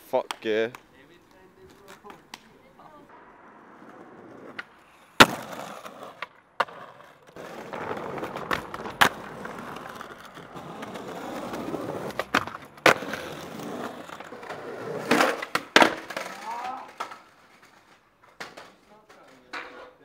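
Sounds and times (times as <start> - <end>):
skateboard wheels rolling on pavement: 0.0 - 20.0
skateboard deck clacking: 3.2 - 20.0.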